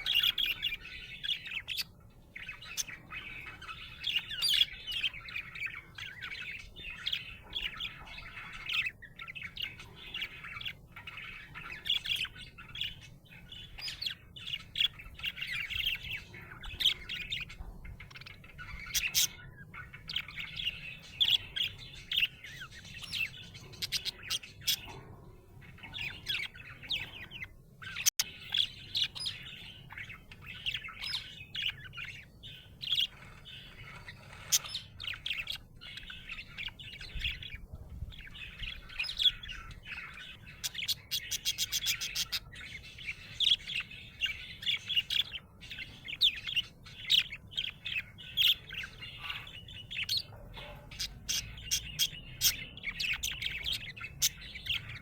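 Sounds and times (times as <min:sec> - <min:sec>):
budgerigar chirping and warbling: 0:00.0 - 0:55.0.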